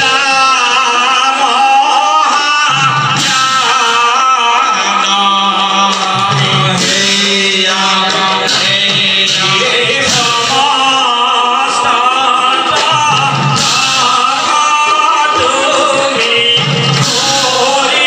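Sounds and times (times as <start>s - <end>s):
men singing a chant: 0.0s - 18.0s.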